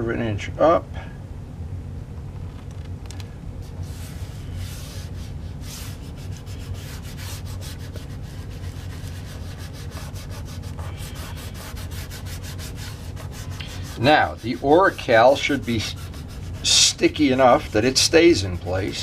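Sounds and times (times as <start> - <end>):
steady low hum: 0.0 - 19.0
hand rubbing masking tape: 3.6 - 19.0.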